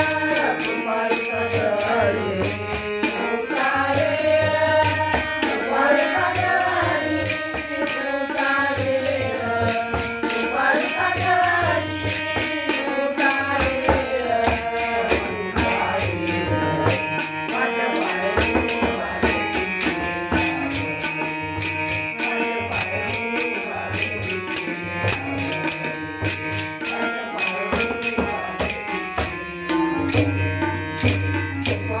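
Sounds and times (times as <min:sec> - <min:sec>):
person singing devotional song: 0:00.0 - 0:32.0.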